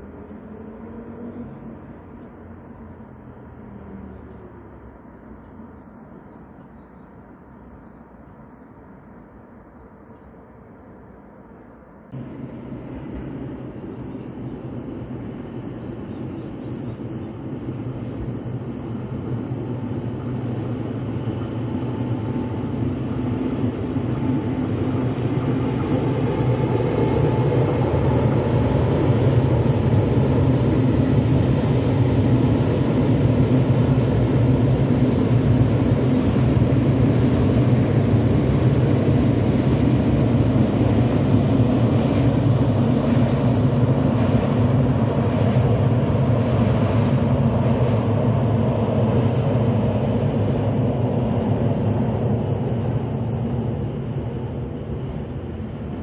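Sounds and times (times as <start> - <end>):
train wheels rumbling on rail: 10.0 - 56.0.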